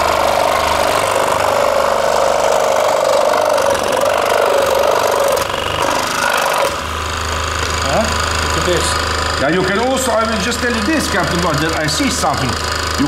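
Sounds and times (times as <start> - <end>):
scroll saw cutting plywood: 0.0 - 13.0.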